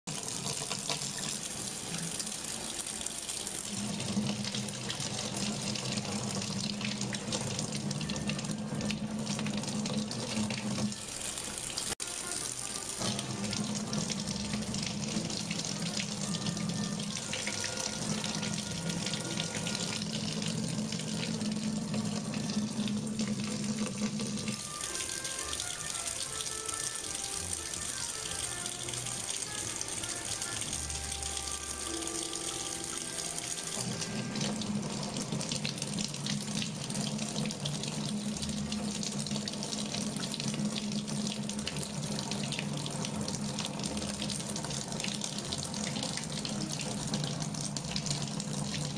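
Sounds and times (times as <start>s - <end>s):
faucet water splashing: 0.1s - 48.9s.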